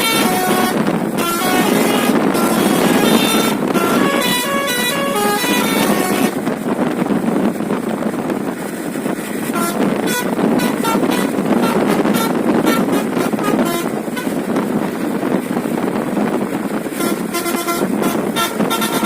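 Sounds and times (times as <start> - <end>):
bus horn playing melody: 0.0 - 6.6, 9.5 - 19.0
steady rushing noise: 0.0 - 19.0.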